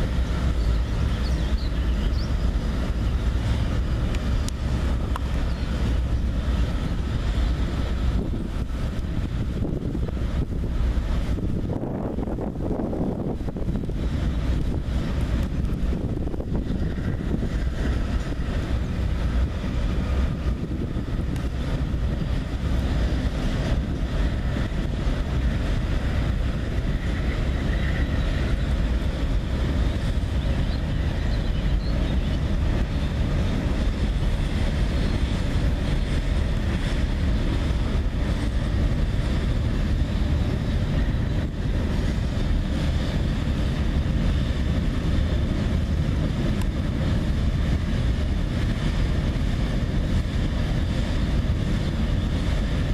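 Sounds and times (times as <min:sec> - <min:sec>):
train wheels rumbling on bridge: 0:00.0 - 0:52.9
wind on microphone: 0:00.0 - 0:52.9.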